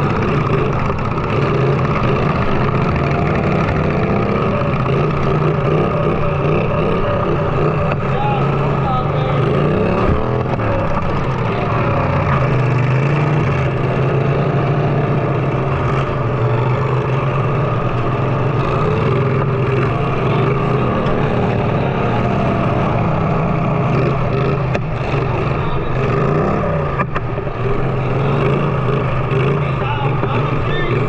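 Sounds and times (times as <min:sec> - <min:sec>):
riding lawn mower engines running: 0:00.0 - 0:31.0.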